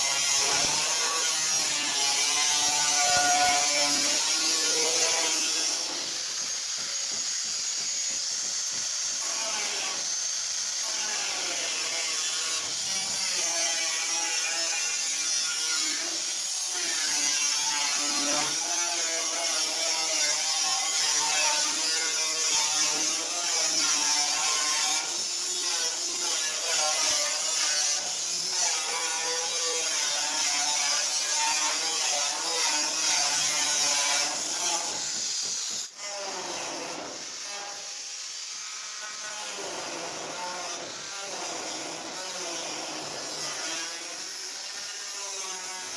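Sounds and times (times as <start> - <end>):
power tool cutting metal sheet: 0.0 - 45.9.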